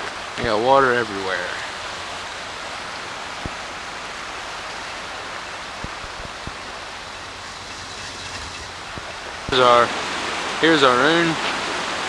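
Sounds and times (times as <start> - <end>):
flooded creek rushing: 0.0 - 12.0.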